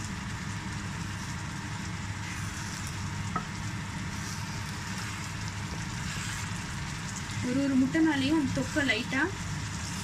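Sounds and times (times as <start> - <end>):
gravy simmering and sizzling: 0.0 - 10.0
steady low hum: 0.0 - 10.0
spatula stirring in pan: 0.2 - 10.0.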